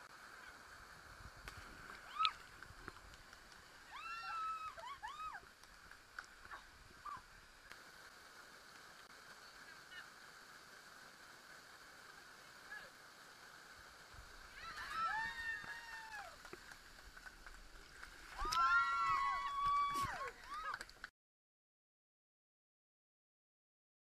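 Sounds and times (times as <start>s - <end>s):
stream running over rocks: 0.0s - 21.1s.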